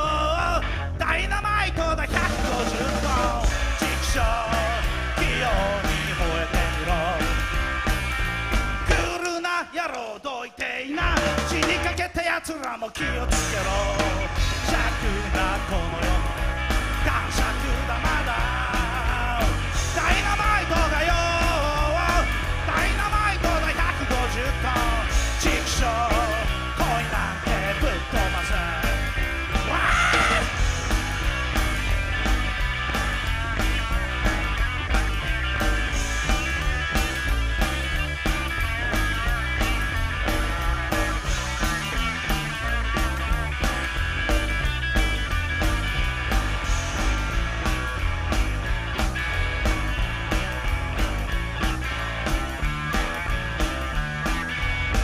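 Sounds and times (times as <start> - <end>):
bending guitar lead line: 0.0 - 9.2, 13.0 - 55.0
rock band playing: 0.0 - 55.0.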